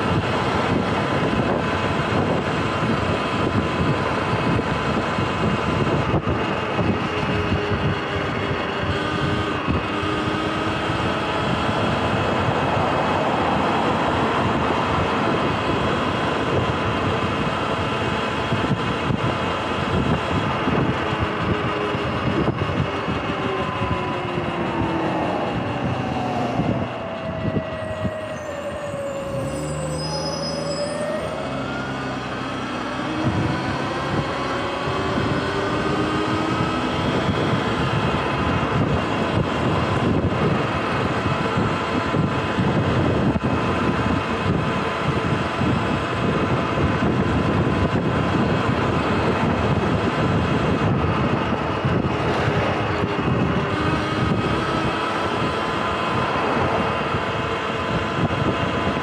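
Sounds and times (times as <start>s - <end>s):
wind: 0.0s - 59.0s.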